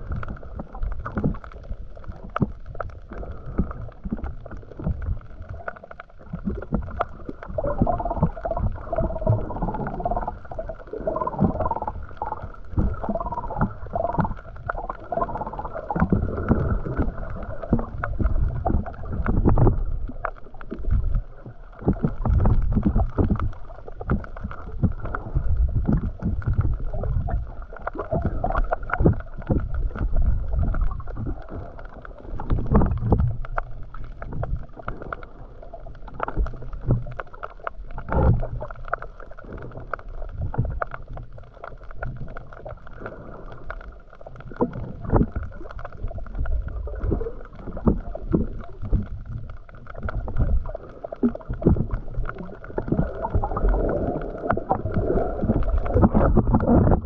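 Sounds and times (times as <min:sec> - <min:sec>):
muffled underwater churning: 0:00.0 - 0:57.0
underwater clicks and knocks: 0:00.0 - 0:57.0.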